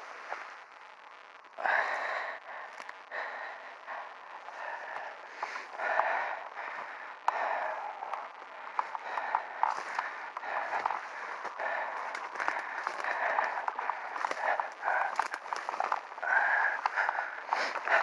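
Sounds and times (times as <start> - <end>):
person breathing heavily: 1.5 - 18.0.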